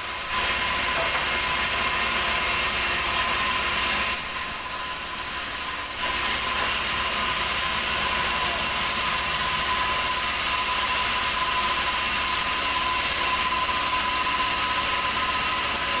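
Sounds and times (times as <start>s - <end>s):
band saw whining: 0.0s - 16.0s.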